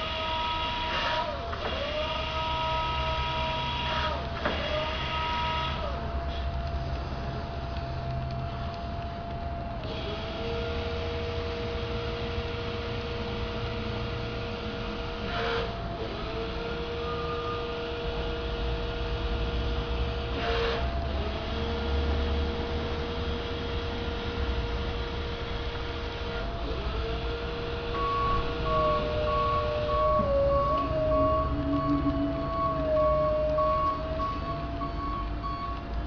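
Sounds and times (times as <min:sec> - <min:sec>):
electric forklift whine and rumble: 0:00.0 - 0:36.0.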